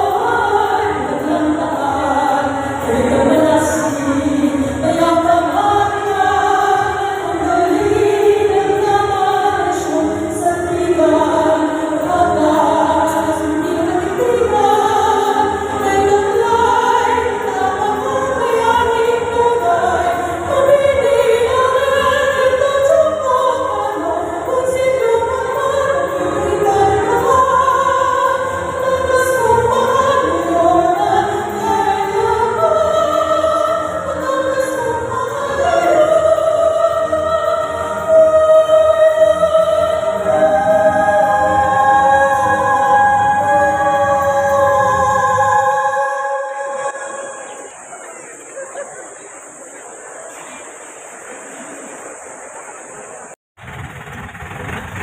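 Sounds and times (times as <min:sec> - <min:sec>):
musical accompaniment: 0:00.0 - 0:47.9
choir singing: 0:00.0 - 0:50.7.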